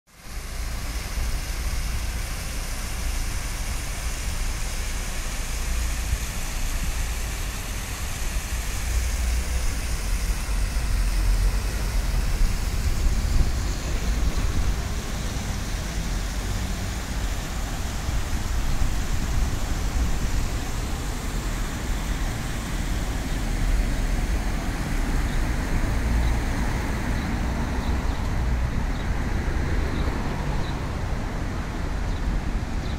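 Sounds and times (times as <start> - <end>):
fountain water jets hissing: 0.1 - 32.9
traffic rumble: 0.2 - 32.9.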